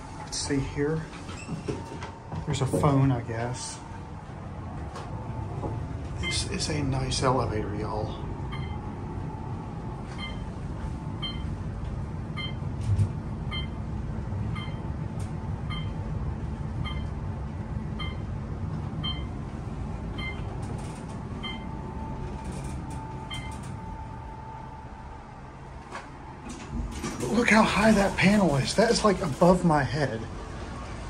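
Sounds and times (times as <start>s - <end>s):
elevator rumbling: 0.0s - 31.0s.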